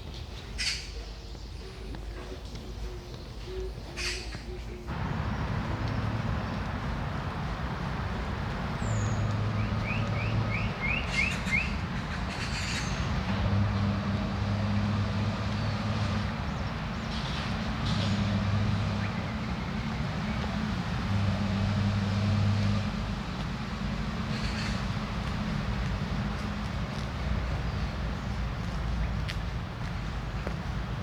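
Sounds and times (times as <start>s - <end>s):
birds chirping: 0.0s - 22.8s, 23.8s - 31.0s
low rumble of traffic: 0.0s - 31.0s.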